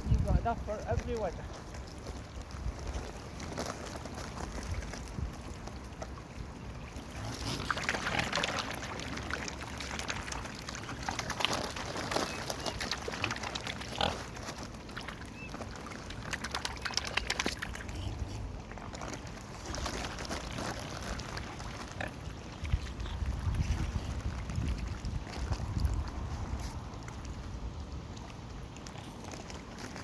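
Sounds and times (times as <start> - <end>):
bills clicking and splashing in water: 0.7 - 27.4, 28.1 - 30.0.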